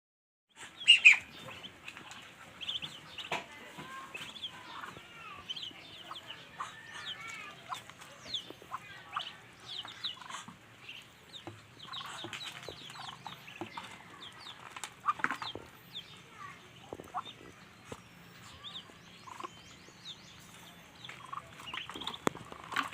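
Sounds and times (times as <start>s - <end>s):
ducklings peeping: 0.5s - 22.9s
ducklings pecking clicks: 0.6s - 16.2s, 16.8s - 22.9s.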